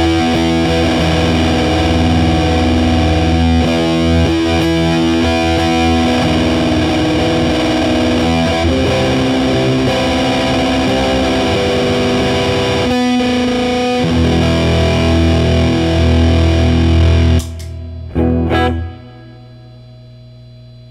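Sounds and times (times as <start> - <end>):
fuzz distorted electric guitar: 0.0 - 20.9.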